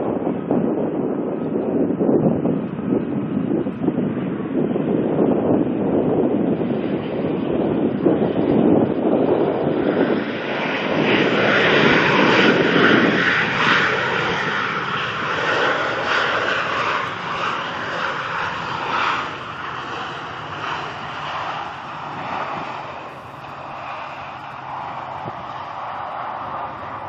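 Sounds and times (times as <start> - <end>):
jet airliner engines passing: 0.0 - 27.0.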